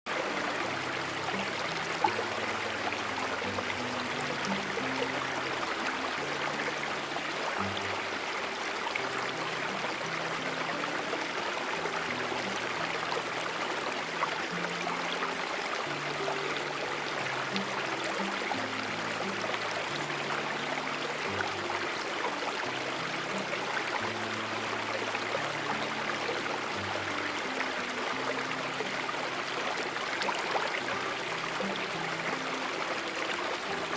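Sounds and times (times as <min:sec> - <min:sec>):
running stream rushing: 0:00.1 - 0:33.9.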